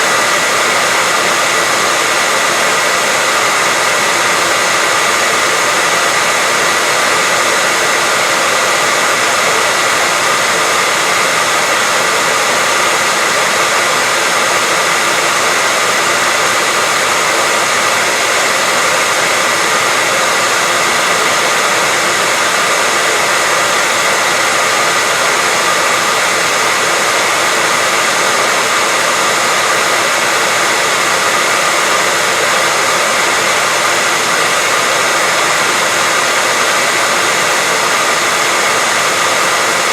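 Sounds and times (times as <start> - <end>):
hair dryer blowing air: 0.0 - 39.9
hair dryer motor whine: 0.0 - 39.9.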